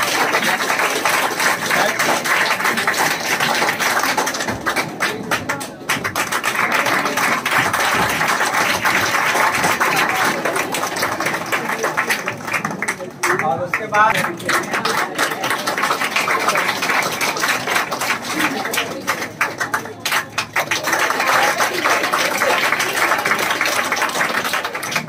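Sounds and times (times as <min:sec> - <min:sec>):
children clapping: 0:00.0 - 0:25.0.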